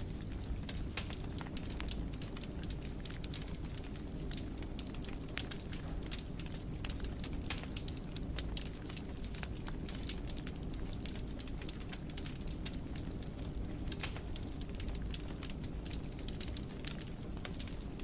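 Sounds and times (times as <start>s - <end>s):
low rumble of burning: 0.0s - 18.0s
wood fire crackling: 0.0s - 18.0s.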